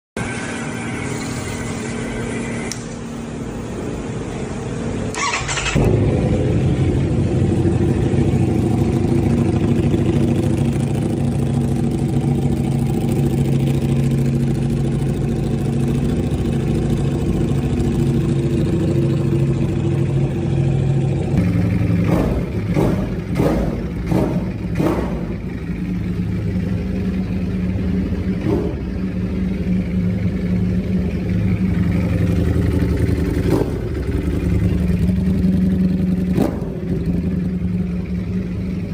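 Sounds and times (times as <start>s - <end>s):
motorcycle engine idling: 5.0s - 38.9s.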